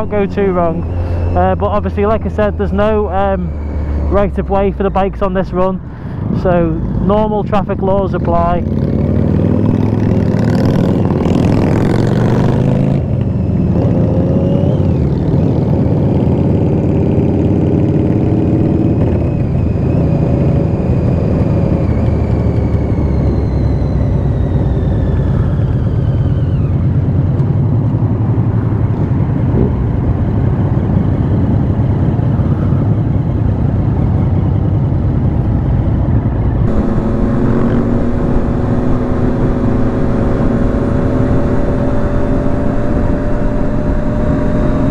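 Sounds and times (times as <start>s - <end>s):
wind and road noise: 0.0s - 44.9s
motorcycle engine revving: 8.2s - 44.9s.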